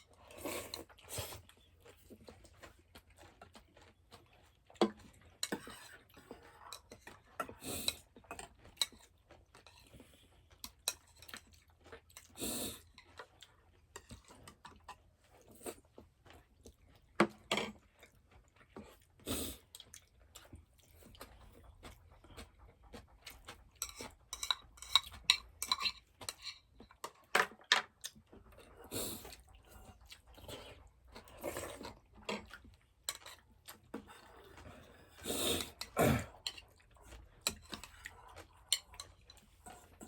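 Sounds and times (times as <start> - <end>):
chewing: 0.0 - 40.0.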